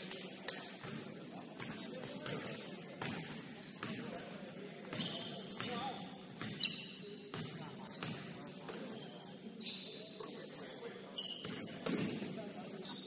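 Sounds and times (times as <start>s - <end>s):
sneaker squeaks: 0.0s - 13.0s.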